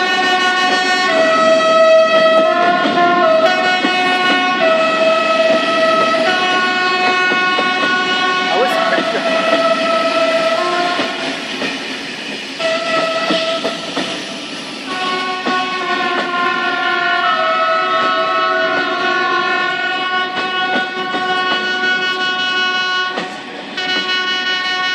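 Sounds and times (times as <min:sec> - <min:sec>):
train horns blasting: 0:00.0 - 0:11.4, 0:12.6 - 0:14.0, 0:14.9 - 0:24.9
train wheels clicking on rail joints: 0:00.0 - 0:24.9.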